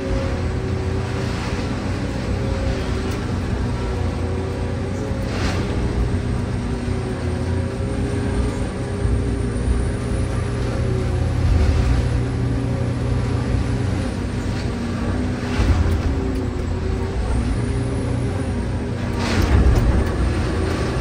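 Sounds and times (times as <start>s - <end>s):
machine low rumble: 0.0s - 21.0s.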